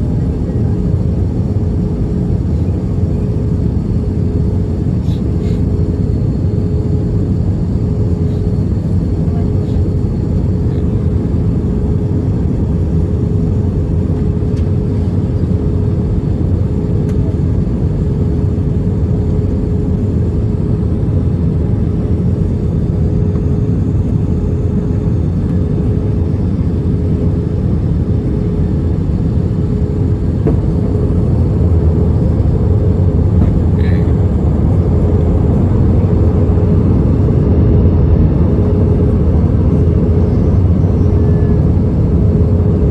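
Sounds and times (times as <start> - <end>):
jet engine rumble in cabin: 0.0 - 42.9
steady hum: 0.0 - 42.9.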